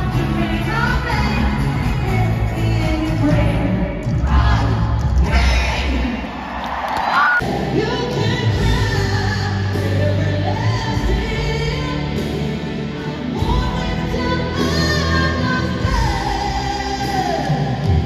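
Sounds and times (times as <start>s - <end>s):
pop concert music over a pa: 0.0s - 18.0s.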